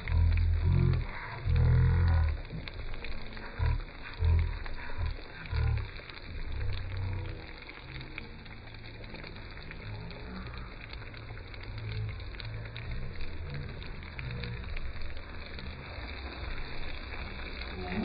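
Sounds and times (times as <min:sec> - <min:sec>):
low rumbles: 0:00.0 - 0:18.0
open fire crackling and hissing: 0:00.0 - 0:18.0.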